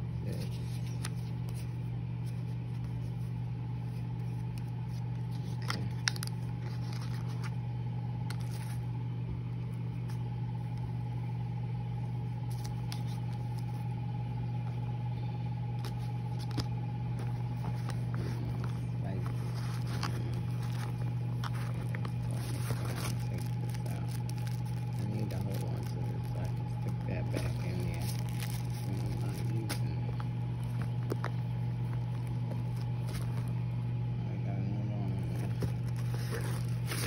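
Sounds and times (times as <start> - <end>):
appliance humming: 0.0 - 37.0
paper packaging rustling: 0.3 - 7.6, 8.2 - 8.9, 12.2 - 14.0, 15.7 - 33.9, 35.1 - 37.0.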